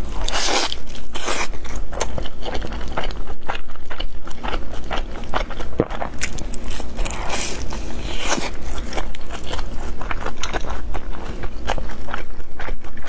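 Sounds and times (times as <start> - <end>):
crunching fried food: 0.0 - 13.0
wet chewing: 0.0 - 13.0.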